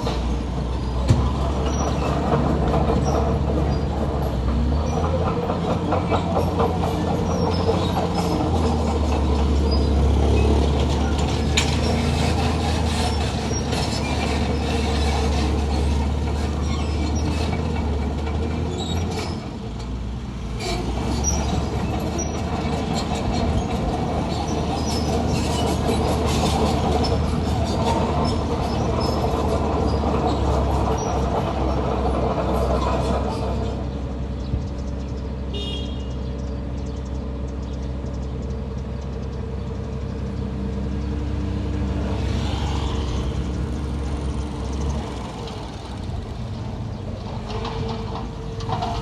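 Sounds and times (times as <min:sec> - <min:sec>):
steel tracks clanking and squealing: 0:00.0 - 0:37.0, 0:42.0 - 0:49.0
bulldozer diesel engine running: 0:00.0 - 0:49.0.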